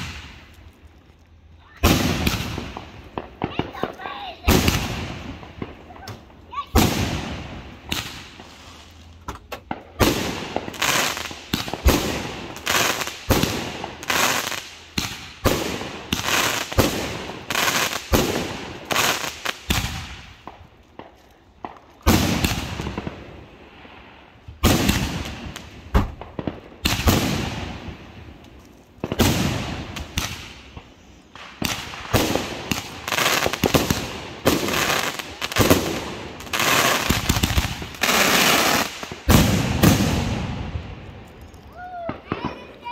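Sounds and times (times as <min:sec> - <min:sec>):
firework shells banging and crackling: 0:00.0 - 0:42.9.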